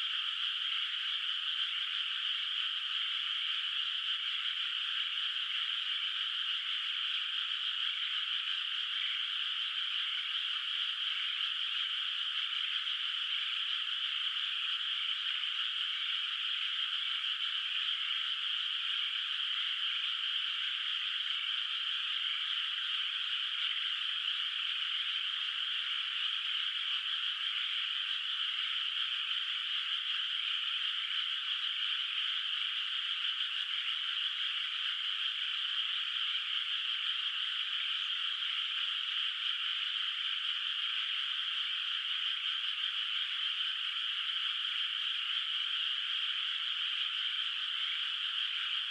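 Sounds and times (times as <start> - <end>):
chorus of frogs trilling: 0.0 - 48.9.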